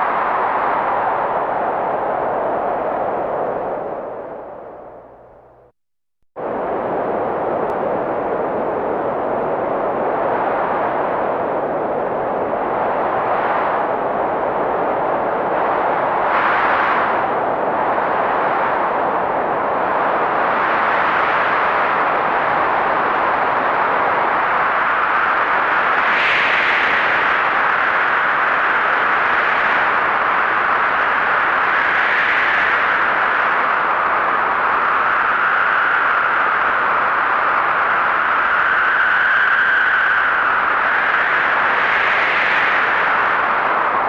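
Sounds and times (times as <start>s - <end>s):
faint wind howling: 0.0s - 5.7s, 6.4s - 44.0s
heavy blizzard wind: 0.0s - 5.7s, 6.4s - 44.0s.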